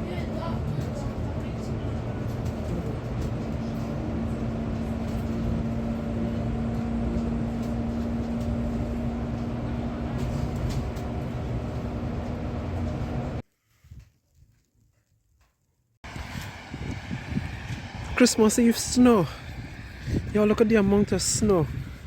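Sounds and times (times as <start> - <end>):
vehicle running rumble: 0.0 - 13.4, 16.0 - 22.0.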